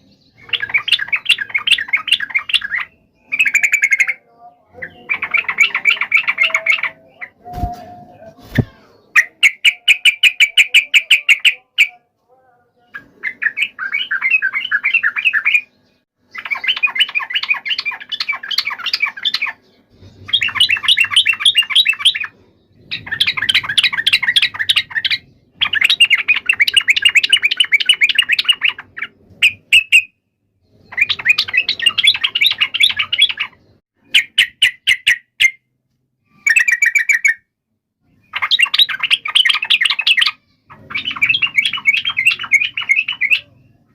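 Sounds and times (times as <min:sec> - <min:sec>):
bulbuls chattering song: 0:00.0 - 0:35.6, 0:36.4 - 0:37.4, 0:38.0 - 0:43.9.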